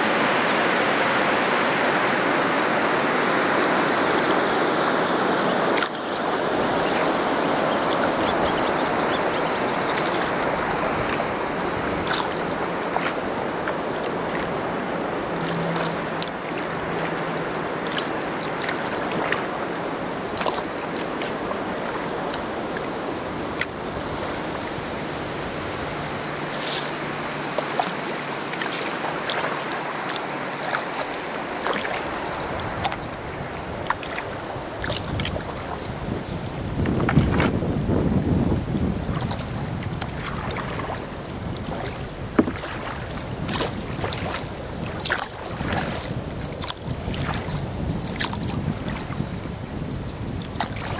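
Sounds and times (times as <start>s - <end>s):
river water flowing: 0.0s - 50.9s.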